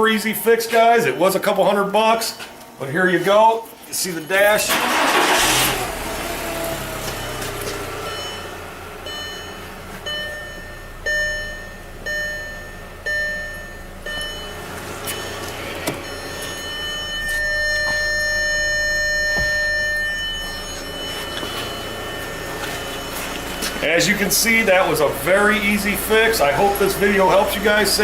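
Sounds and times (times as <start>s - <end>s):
car warning chime beeps: 4.0s - 28.0s.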